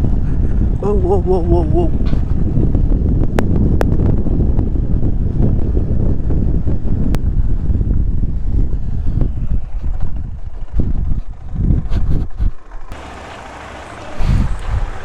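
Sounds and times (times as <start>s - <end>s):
wind buffeting microphone: 0.0s - 13.0s, 13.9s - 15.0s
motorcycle engine running: 0.0s - 15.0s.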